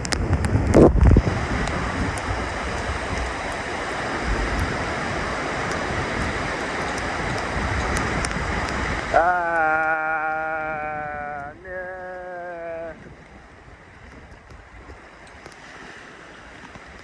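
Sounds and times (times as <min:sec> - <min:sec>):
strong wind: 0:00.0 - 0:17.0
surf rushing: 0:00.0 - 0:17.0
wind buffeting microphone: 0:00.0 - 0:17.0.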